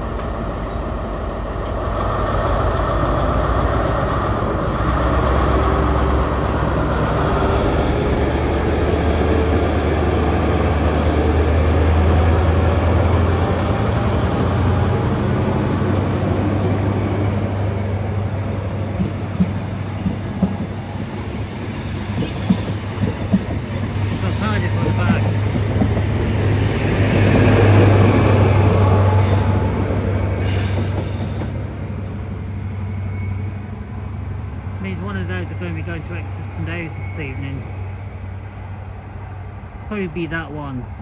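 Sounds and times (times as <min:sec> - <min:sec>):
rail noise: 0:00.0 - 0:41.0
train engine rumble: 0:00.0 - 0:41.0.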